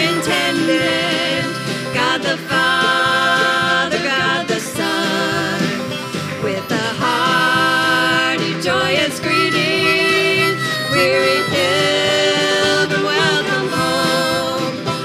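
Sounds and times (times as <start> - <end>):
bluegrass band playing: 0.0 - 15.0
harmonica melody: 0.0 - 15.0.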